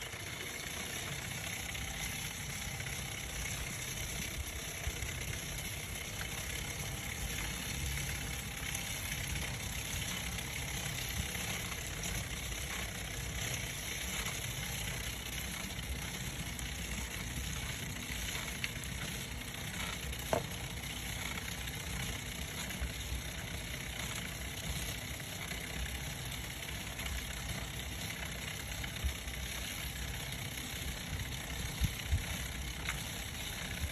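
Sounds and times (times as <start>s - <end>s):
gear hub turning noise: 0.0s - 33.9s.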